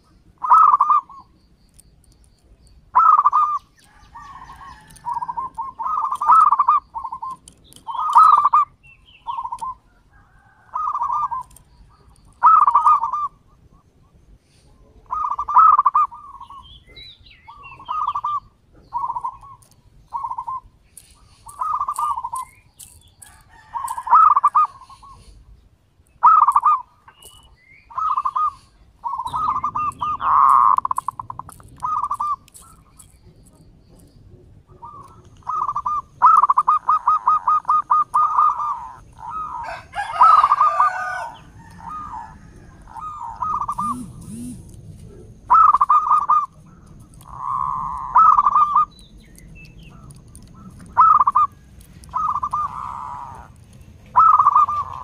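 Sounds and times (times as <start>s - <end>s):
dove cooing: 0.0s - 1.3s, 2.8s - 14.1s, 14.7s - 25.4s, 26.2s - 33.7s, 34.6s - 49.0s, 49.9s - 55.0s.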